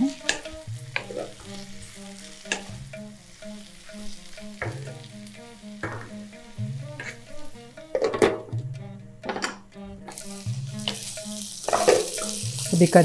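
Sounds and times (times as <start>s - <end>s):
spatula scraping a pan: 0.0s - 8.6s, 9.2s - 13.0s
vegetables sizzling in a wok: 0.0s - 13.0s.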